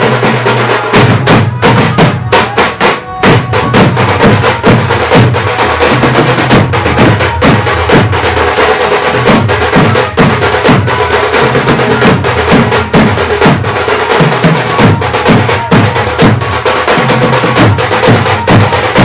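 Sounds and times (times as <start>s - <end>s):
drums beating fast rhythm: 0.0s - 19.0s.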